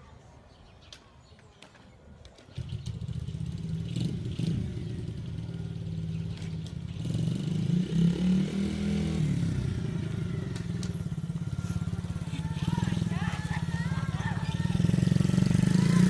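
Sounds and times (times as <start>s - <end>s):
dirt bike engine revving: 2.6s - 16.0s.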